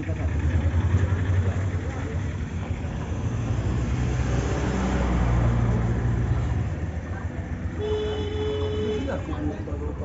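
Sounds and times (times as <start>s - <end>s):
street noise: 0.0s - 10.0s
vehicle engine running: 0.0s - 10.0s.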